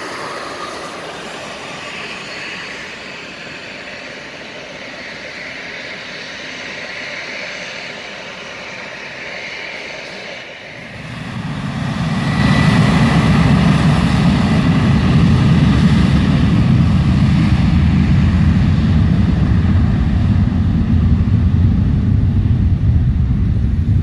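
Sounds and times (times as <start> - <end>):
high jet engine whine: 0.0 - 24.0
jet engines rumbling: 0.0 - 24.0.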